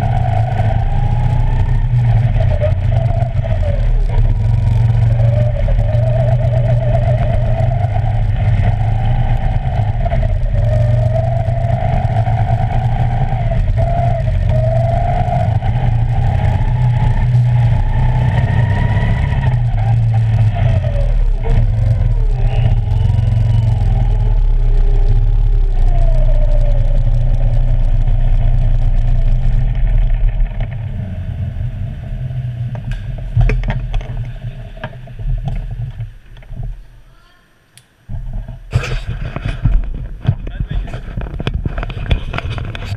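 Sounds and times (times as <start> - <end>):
go-kart engine revving: 0.0 - 36.7
another kart engine nearby: 0.0 - 36.8.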